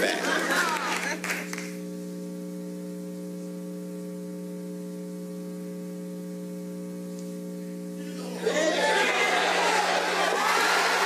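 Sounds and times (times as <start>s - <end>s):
steady electronic hum: 0.0s - 11.0s.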